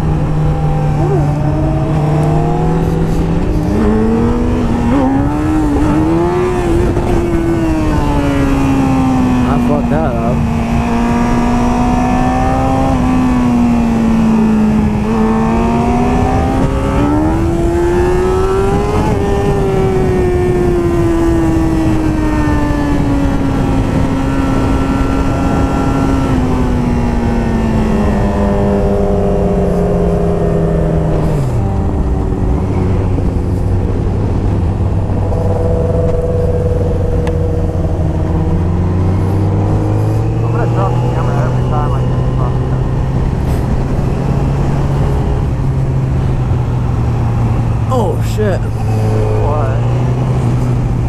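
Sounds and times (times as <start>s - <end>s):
motorcycle engine: 0.0s - 51.0s
rushing wind: 0.0s - 51.0s.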